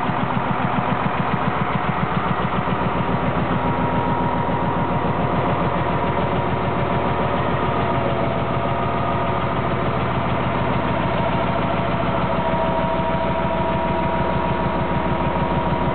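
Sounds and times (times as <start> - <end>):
diesel truck engine idling: 0.0 - 15.9.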